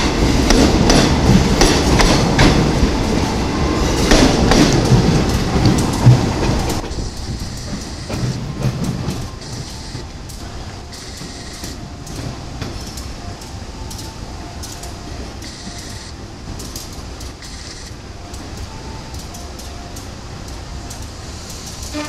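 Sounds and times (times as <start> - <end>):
wheels clicking over rail joints: 0.0 - 3.4, 4.0 - 22.0
train running noise: 0.0 - 22.0.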